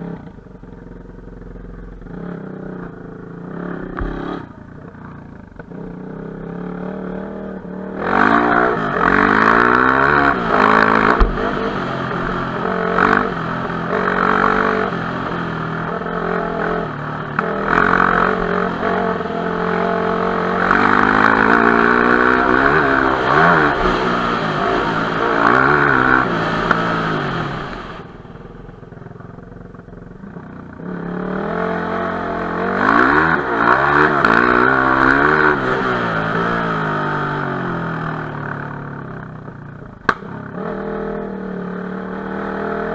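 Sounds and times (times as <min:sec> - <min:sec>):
dirt bike engine revving: 0:02.0 - 0:28.7, 0:30.0 - 0:39.0.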